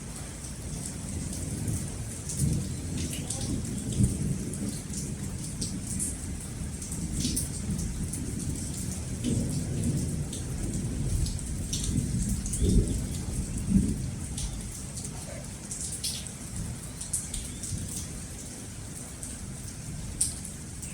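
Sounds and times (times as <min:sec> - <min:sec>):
low rolling thunder: 0:00.0 - 0:16.8
steady rain falling: 0:00.0 - 0:20.9.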